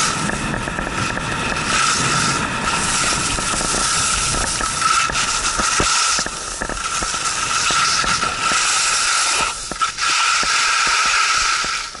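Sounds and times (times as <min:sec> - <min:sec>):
skis scraping over icy snow: 0:00.0 - 0:12.0.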